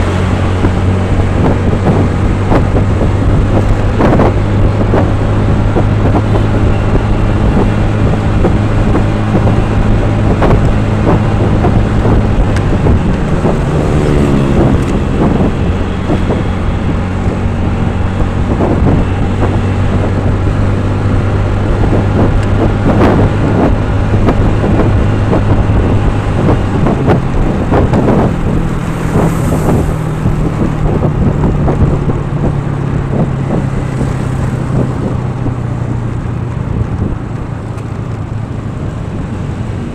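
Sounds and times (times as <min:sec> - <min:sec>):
sliding pitch sweep: 0:00.0 - 0:36.4
vehicle engine with road noise: 0:00.0 - 0:39.9.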